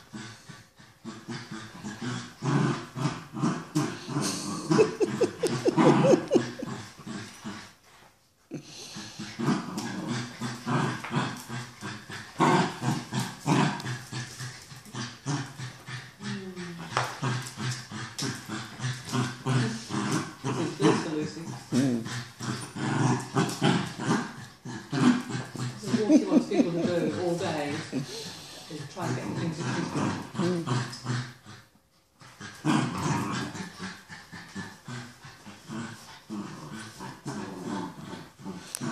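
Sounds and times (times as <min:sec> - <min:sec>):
small dogs growling in play: 0:00.0 - 0:38.9.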